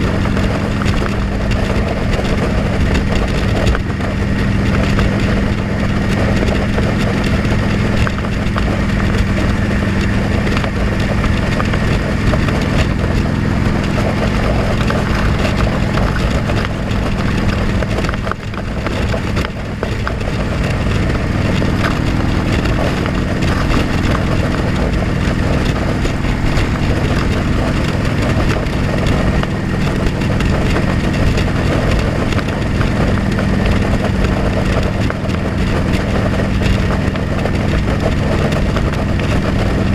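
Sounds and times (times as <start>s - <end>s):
broad rush of noise: 0.0s - 39.9s
motorcycle engine running: 0.0s - 39.9s.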